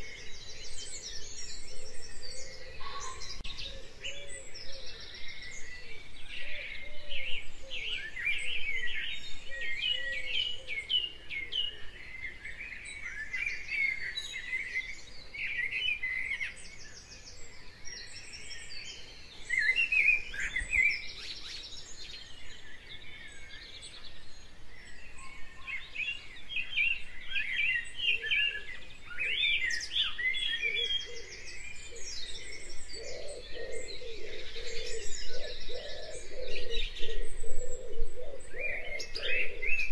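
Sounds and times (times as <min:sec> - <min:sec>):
low repeated bird calls: 0:00.0 - 0:39.9
songbirds chirping and trilling: 0:00.0 - 0:39.9.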